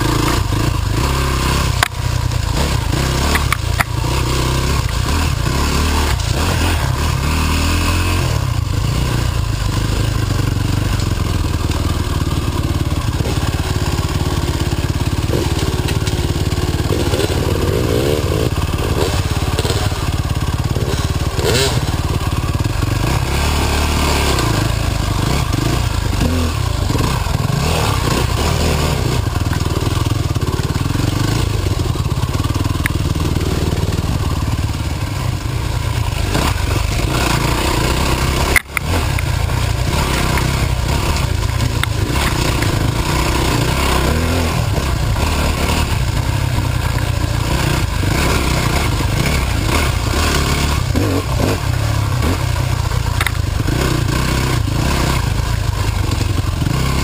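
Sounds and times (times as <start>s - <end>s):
dirt bike engine rumbling: 0.0s - 57.0s.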